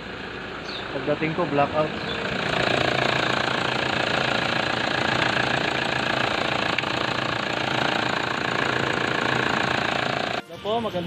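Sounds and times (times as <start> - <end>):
car engine running: 0.0 - 10.4.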